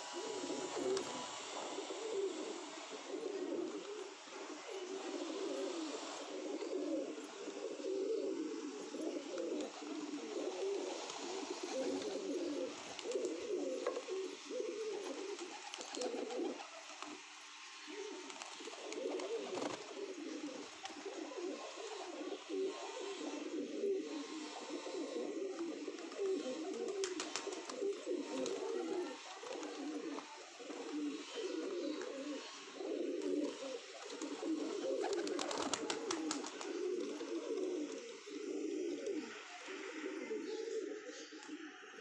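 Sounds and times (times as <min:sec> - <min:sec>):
pigeons cooing: 0:00.0 - 0:42.0.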